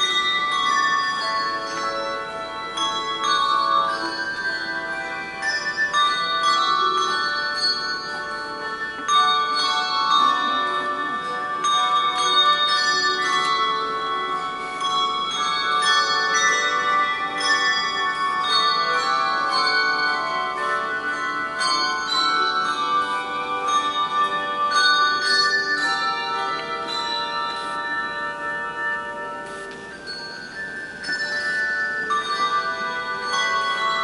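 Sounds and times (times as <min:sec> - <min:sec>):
handbell choir playing: 0:00.0 - 0:34.0.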